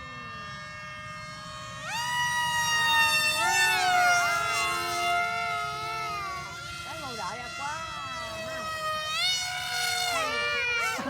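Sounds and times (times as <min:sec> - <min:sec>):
electric model airplane motors whining: 0:00.0 - 0:11.0.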